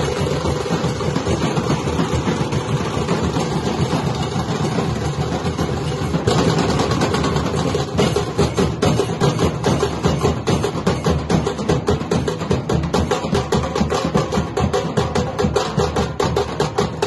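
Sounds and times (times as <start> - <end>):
drum roll: 0.0 - 17.0
sharp drum strokes: 0.0 - 17.0.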